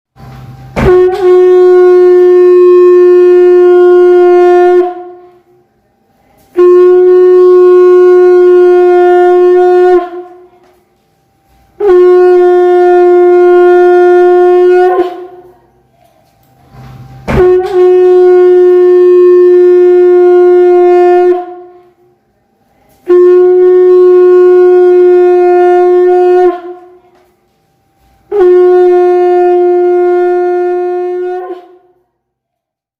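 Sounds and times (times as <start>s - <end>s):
conch shell trumpet blasts: 0.7s - 5.5s, 6.5s - 10.7s, 11.7s - 15.6s, 16.7s - 22.1s, 22.9s - 27.1s, 28.1s - 32.0s.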